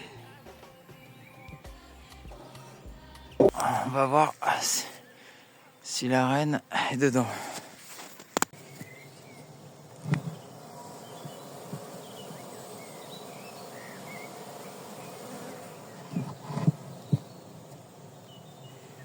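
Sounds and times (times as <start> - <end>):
honeybees buzzing: 0.0 - 7.5, 8.5 - 19.0.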